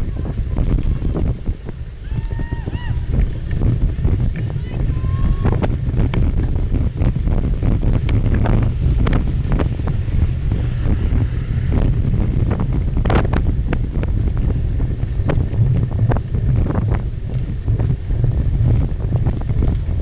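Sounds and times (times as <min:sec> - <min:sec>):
wind buffeting microphone: 0:00.0 - 0:20.0
bike rattling over rough ground: 0:02.6 - 0:20.0.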